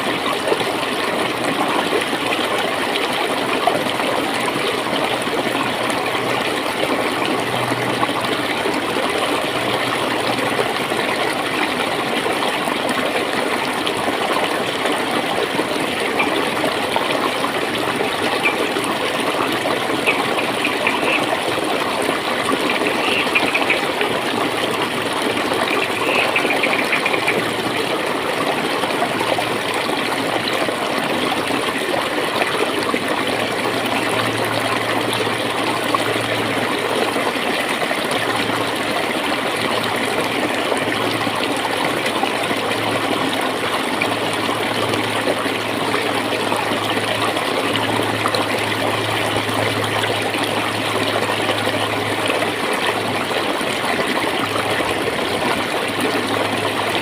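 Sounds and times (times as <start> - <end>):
water gurgling in a stream: 0.0 - 57.0.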